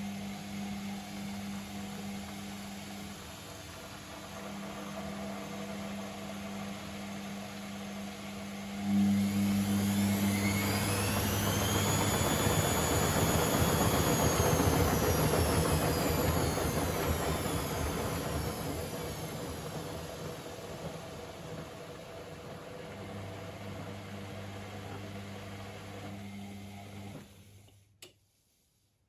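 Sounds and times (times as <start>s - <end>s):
washing machine motor whine: 0.0s - 27.8s
washing machine hum: 0.0s - 28.0s.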